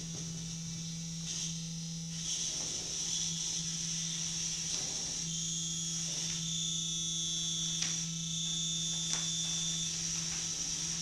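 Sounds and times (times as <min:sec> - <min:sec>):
high hissy whine: 0:00.0 - 0:11.0
low electronic hum: 0:00.0 - 0:11.0.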